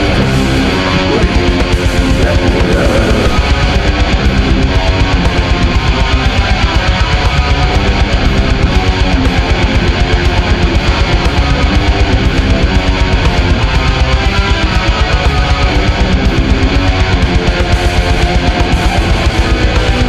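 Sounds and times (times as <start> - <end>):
heavy electric guitar riffing: 0.0 - 20.0
rapid drum beat: 0.0 - 20.0.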